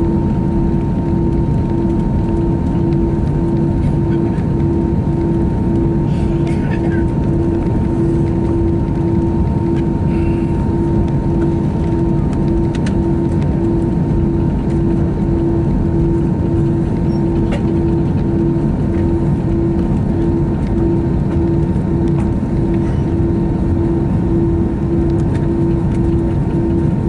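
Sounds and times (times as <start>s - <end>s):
aircraft cabin engine rumble: 0.0s - 27.0s
faint high whine: 0.0s - 27.0s
pulsing humming tone: 0.0s - 27.0s.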